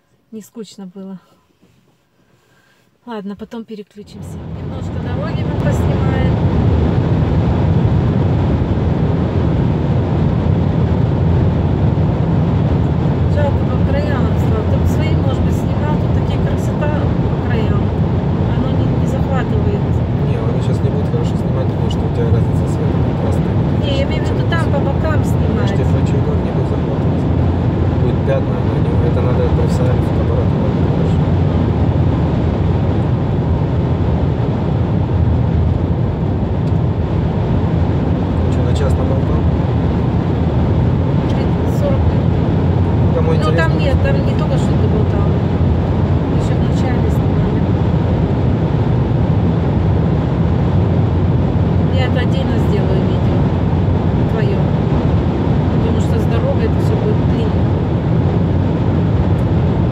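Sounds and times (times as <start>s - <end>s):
car cabin road rumble: 3.5s - 59.9s.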